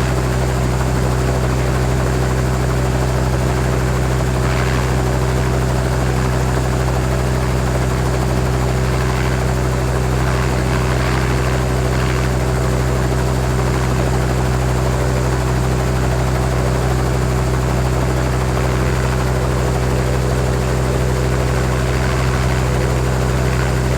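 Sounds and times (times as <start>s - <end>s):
helicopter engine and rotor: 0.0s - 23.9s.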